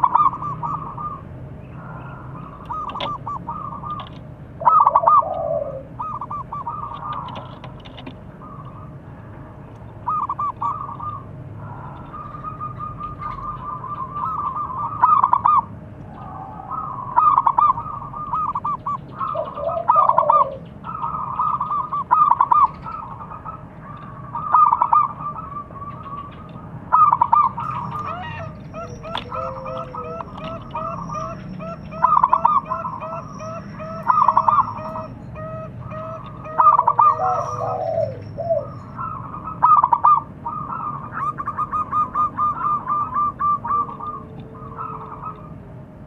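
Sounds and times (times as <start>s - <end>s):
doves cooing: 0.0s - 46.0s.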